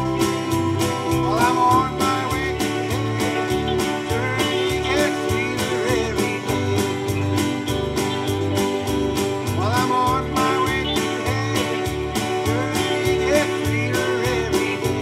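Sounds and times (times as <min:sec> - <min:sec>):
acoustic guitar: 0:00.0 - 0:15.0
live band playing: 0:00.0 - 0:15.0.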